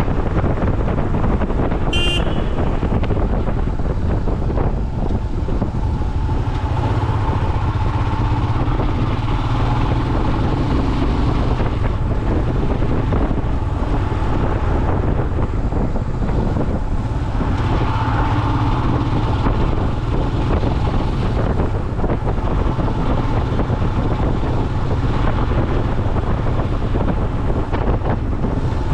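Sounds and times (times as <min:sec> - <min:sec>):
motorcycle engine running: 0:00.0 - 0:28.9
wind rush on microphone: 0:00.0 - 0:28.9.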